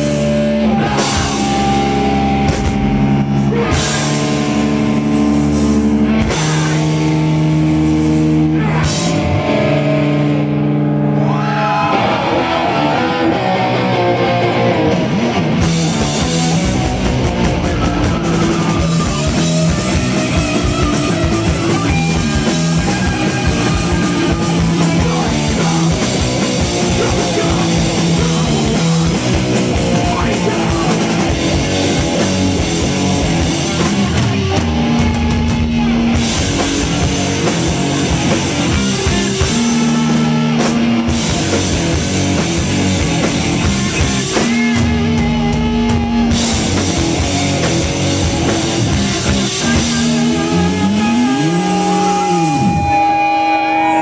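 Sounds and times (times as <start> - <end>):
drum kit and cymbals: 0.0 - 9.8, 15.1 - 54.0
distorted electric guitar riffing: 0.0 - 54.0.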